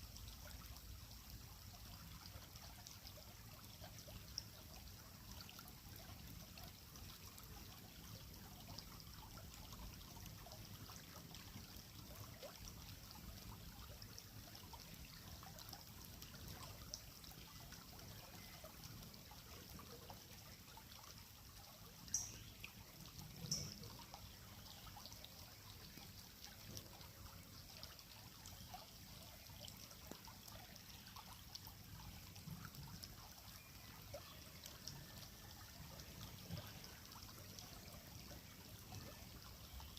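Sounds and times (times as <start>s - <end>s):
creek water trickling over stones: 0.0s - 39.9s.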